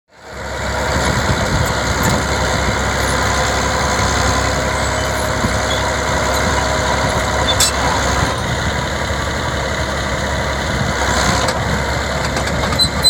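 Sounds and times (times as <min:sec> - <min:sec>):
bulldozer diesel engine running: 0:00.1 - 0:13.0
bulldozer blade pushing soil: 0:00.2 - 0:13.0.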